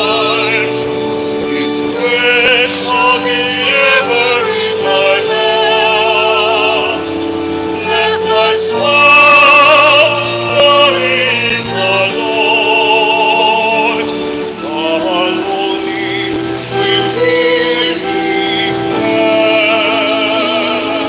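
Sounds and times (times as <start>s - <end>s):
solo singer with vibrato: 0.0s - 21.0s
sustained accompanying chords: 0.0s - 21.0s.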